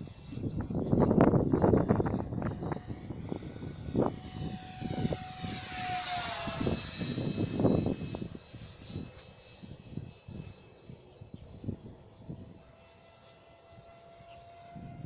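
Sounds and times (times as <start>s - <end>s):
wind buffeting microphone: 0.0s - 12.9s, 13.7s - 15.0s
electric ducted fan whining: 0.0s - 15.0s.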